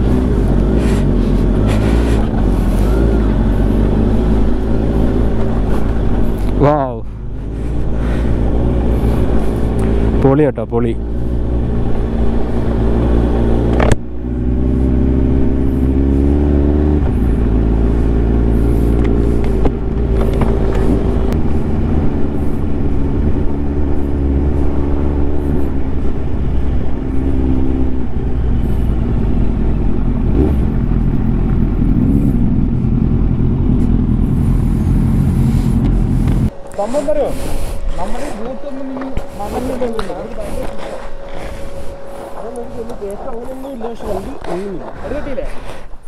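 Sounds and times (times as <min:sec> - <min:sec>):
motorcycle engine running: 0:00.0 - 0:45.4
wind and riding noise: 0:00.0 - 0:46.0.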